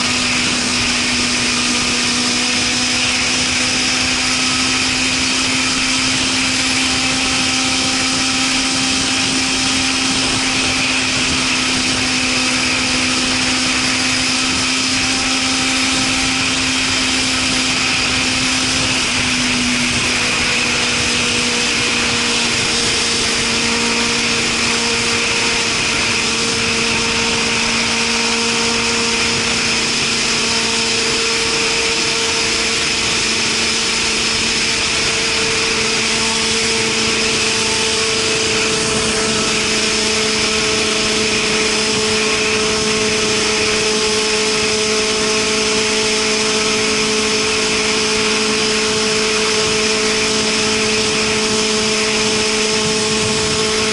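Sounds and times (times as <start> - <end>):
motorcycle engine cruising: 0.0 - 53.9
wind noise rushing: 0.0 - 53.9.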